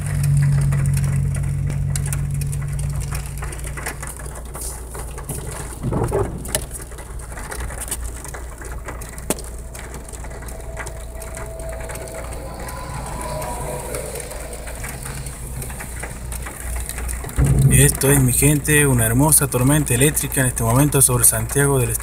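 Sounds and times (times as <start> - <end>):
car engine humming: 0.0 - 20.1
short rumble: 0.0 - 20.1
rain ticking on car windshield: 0.0 - 22.0.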